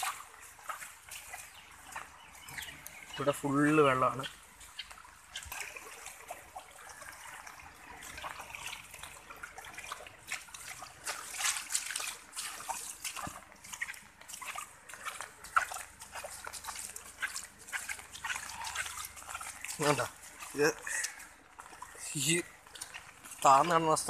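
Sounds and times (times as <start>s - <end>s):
floodwater trickling and sloshing: 0.0s - 24.0s
water splashes: 0.0s - 24.0s.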